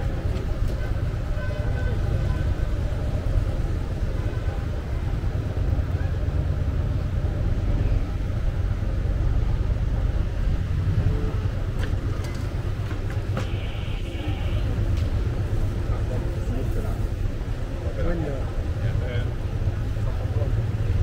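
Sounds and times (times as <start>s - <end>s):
faint voices: 0.0s - 21.0s
low street rumble: 0.0s - 21.0s.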